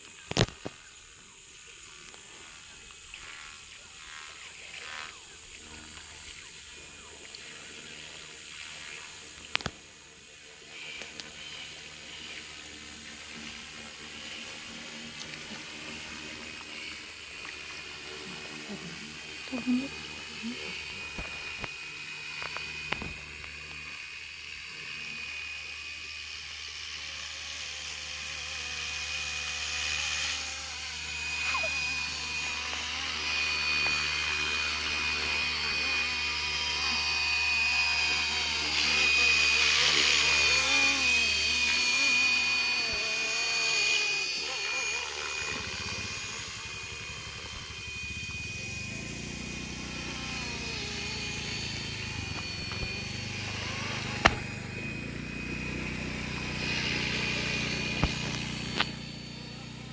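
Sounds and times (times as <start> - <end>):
high motor whine: 0.0 - 59.9
rc helicopter rotor whirring: 0.0 - 59.9.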